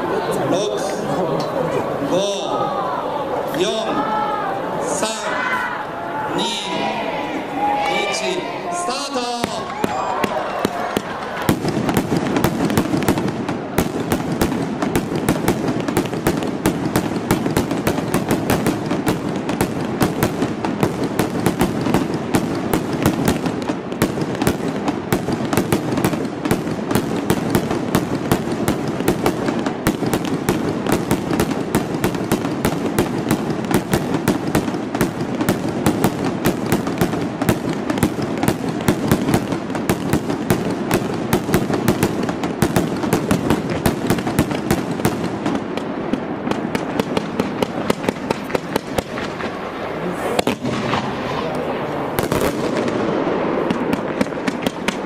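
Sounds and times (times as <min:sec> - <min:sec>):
fireworks popping and crackling: 0:09.0 - 0:55.0.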